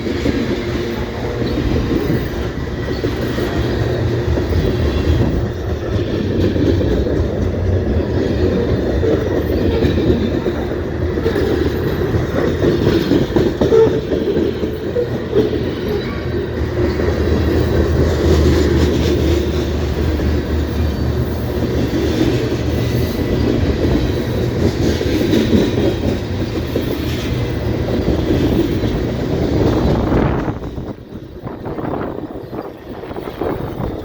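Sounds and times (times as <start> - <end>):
freight train rumbling and clattering: 0.0 - 34.0.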